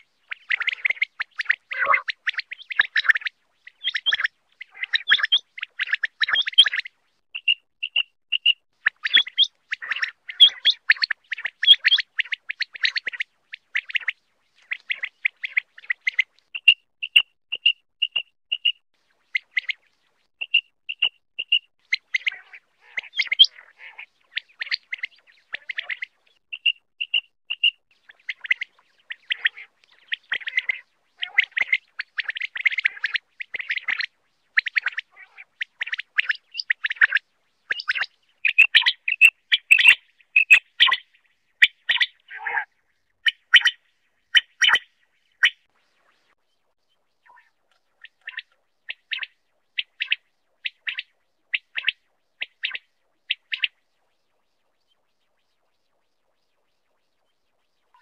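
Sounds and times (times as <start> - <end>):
quail chirping: 0.0 - 19.8, 20.4 - 45.7, 47.3 - 53.8.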